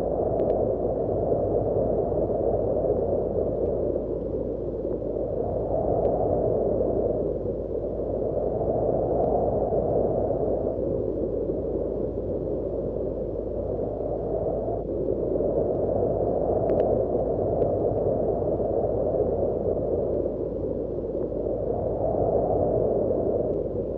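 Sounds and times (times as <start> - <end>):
wind blowing in gusts: 0.0 - 23.9.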